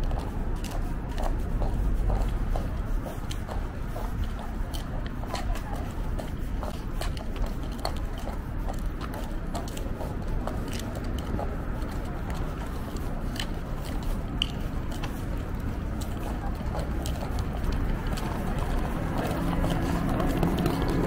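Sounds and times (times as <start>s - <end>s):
footsteps on pavement: 0.0s - 21.0s
low city rumble: 0.0s - 21.0s.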